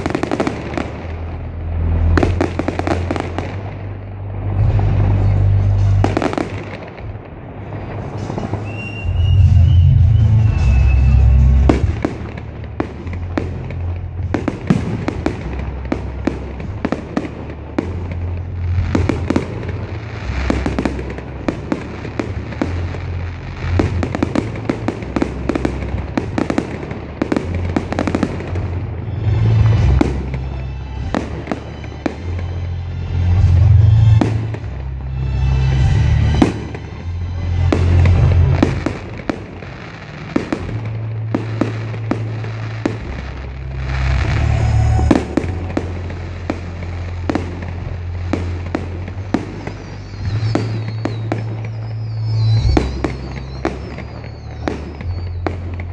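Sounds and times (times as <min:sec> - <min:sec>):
fireworks bangs and crackles: 0:00.0 - 0:55.9
music with heavy bass line: 0:04.4 - 0:17.2, 0:18.0 - 0:26.1, 0:27.6 - 0:51.5.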